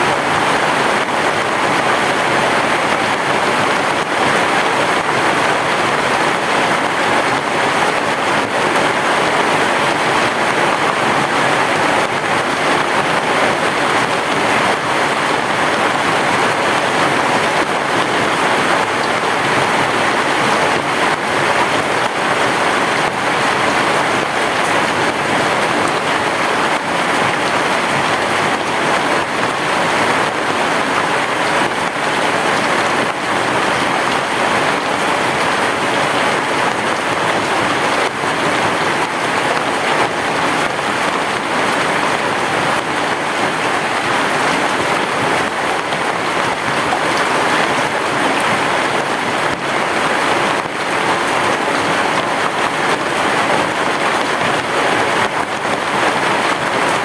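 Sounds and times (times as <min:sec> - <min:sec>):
heavy rain on a roof: 0:00.0 - 0:57.0.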